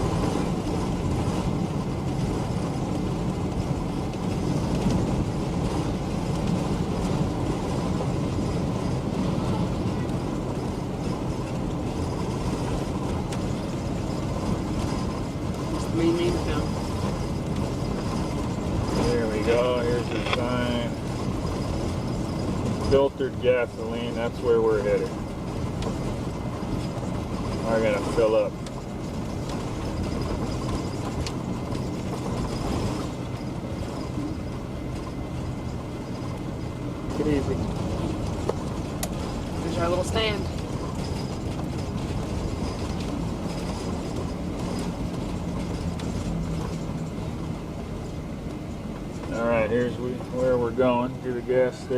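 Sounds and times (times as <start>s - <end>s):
vehicle engine and road noise: 0.0s - 51.9s.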